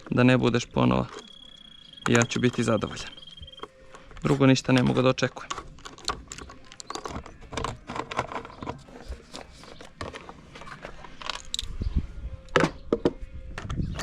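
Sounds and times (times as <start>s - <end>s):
hand tools clicking and knocking: 0.0s - 11.7s.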